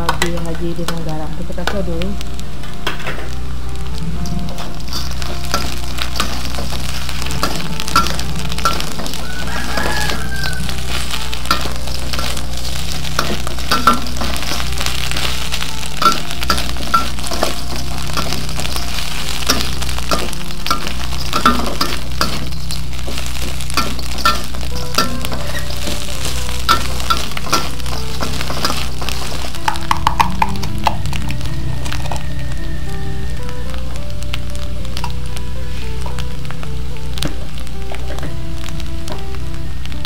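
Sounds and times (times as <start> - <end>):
frying sizzle: 0.0 - 40.0
metal spatula scraping wok: 2.9 - 38.8.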